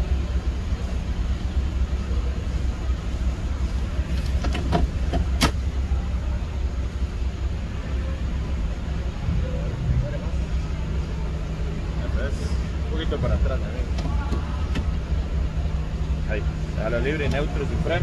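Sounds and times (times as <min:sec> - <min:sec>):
van engine idling: 0:00.0 - 0:18.0.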